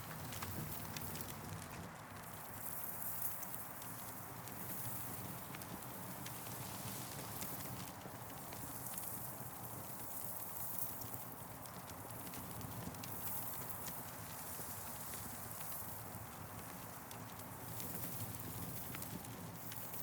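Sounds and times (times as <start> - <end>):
campfire crackling: 0.0 - 2.4, 3.4 - 20.0.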